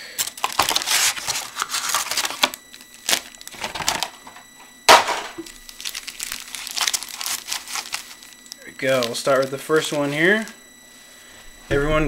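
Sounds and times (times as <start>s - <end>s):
card packs rustling: 0.0s - 10.6s
computer fan whine: 0.0s - 12.0s.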